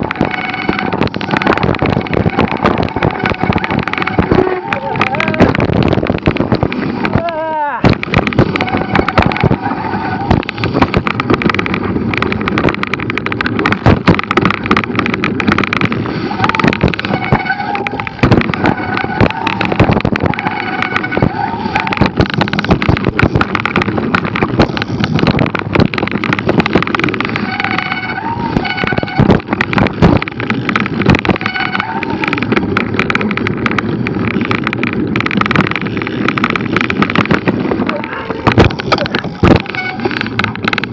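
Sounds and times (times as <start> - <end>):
mountain bike rattling: 0.0 - 40.9
wind and tyre noise: 0.0 - 40.9.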